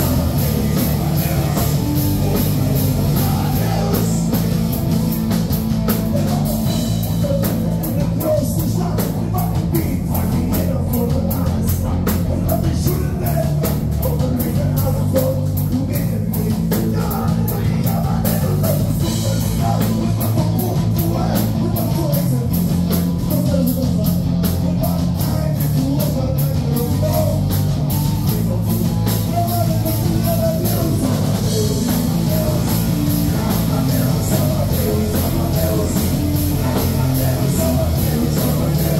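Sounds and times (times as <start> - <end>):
person singing: 0.0 - 4.9, 5.9 - 38.9
rock band playing: 0.0 - 38.9.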